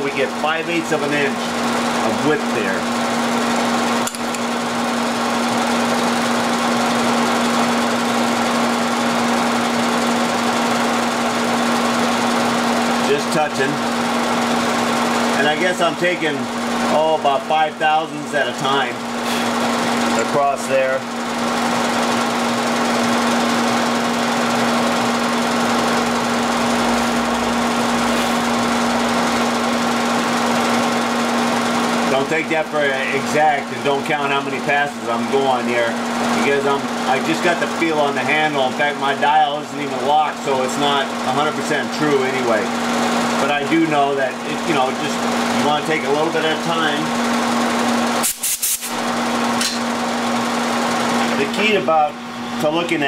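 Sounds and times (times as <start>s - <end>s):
milling machine hum: 0.0s - 53.0s.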